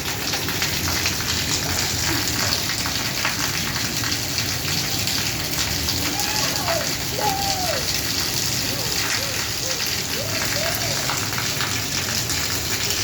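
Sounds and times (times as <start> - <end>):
rain falling on a rooftop: 0.0 - 13.0.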